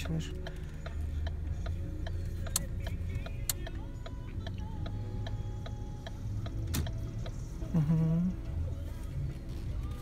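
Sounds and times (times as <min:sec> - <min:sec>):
engine and road hum: 0:00.0 - 0:10.0
turn signal ticking: 0:00.0 - 0:10.0.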